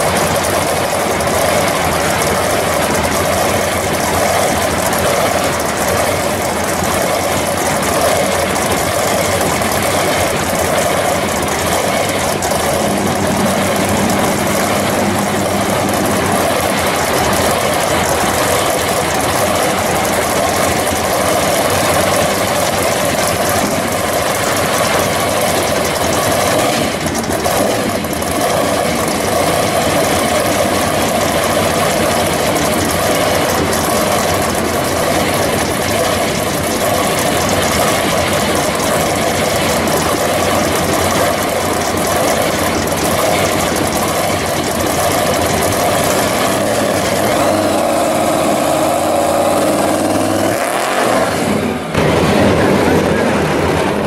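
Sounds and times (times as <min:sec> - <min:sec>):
tires spinning: 0:00.0 - 0:54.0
truck engine revving: 0:00.0 - 0:54.0.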